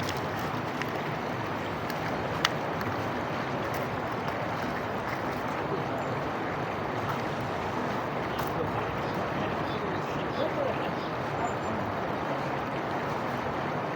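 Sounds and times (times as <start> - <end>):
water rushing: 0.0 - 13.9.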